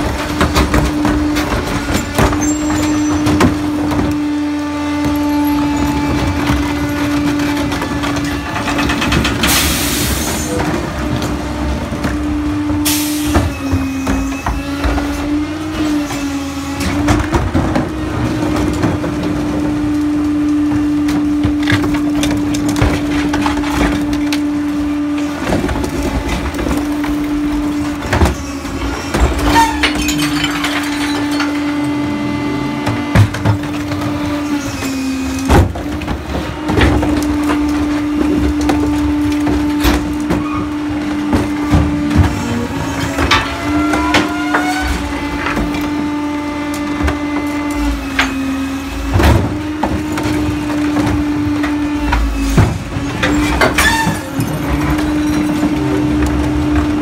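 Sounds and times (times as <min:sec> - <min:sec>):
carts clunking and rattling: 0:00.0 - 0:57.0
garbage truck engine hum: 0:00.0 - 0:57.0.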